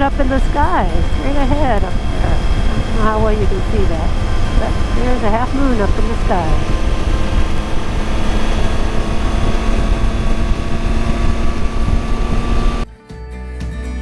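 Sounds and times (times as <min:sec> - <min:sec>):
heavy wind noise: 0:00.0 - 0:12.8
motorcycle engine running: 0:00.0 - 0:12.8.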